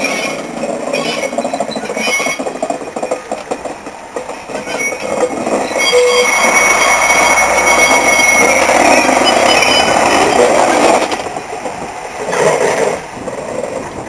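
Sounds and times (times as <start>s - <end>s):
diesel bus rolling past: 0.0s - 14.0s
wheels squealing: 0.0s - 14.0s.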